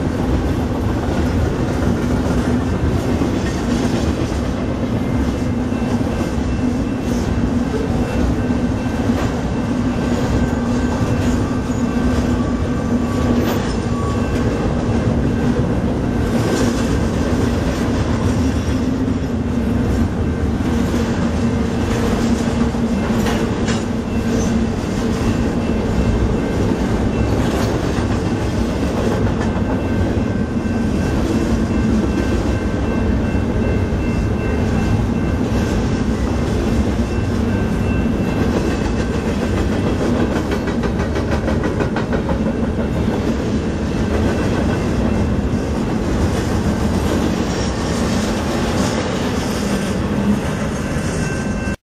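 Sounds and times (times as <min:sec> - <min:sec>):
train wheels clickety-clack: 0:00.0 - 0:51.8.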